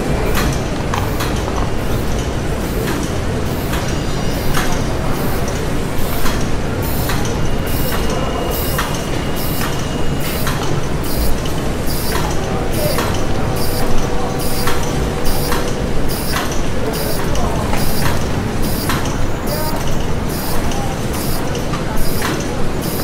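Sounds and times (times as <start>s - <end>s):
industrial machinery clanking: 0.0s - 23.0s.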